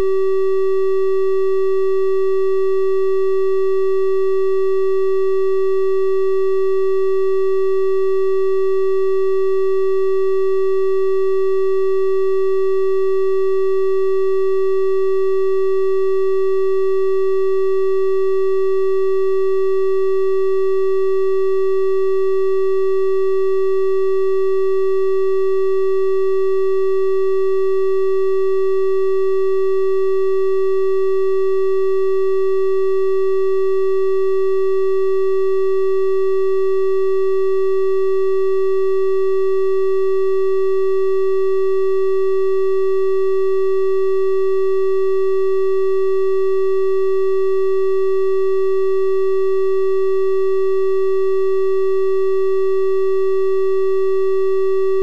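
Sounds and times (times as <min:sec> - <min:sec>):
triangle wave test tone: 0:00.0 - 0:55.0.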